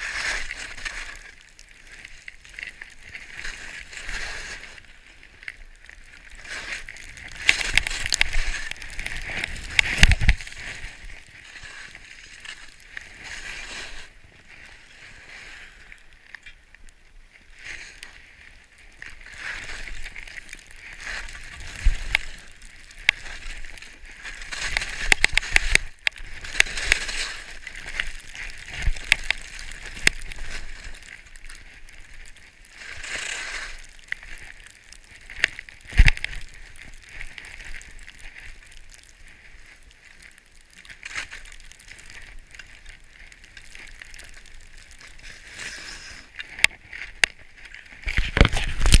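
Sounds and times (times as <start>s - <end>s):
skis hissing through snow: 0.0s - 15.9s, 17.4s - 40.2s, 40.9s - 49.0s
ski scrapes and clatters: 0.0s - 16.5s, 17.4s - 49.0s.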